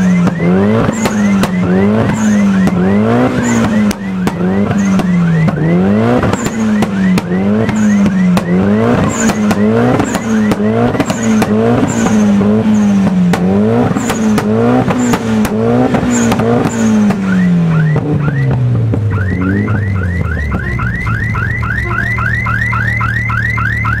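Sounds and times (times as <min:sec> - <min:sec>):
exhaust cracks: 0:00.0 - 0:21.9
car engine revving and idling: 0:00.0 - 0:24.0.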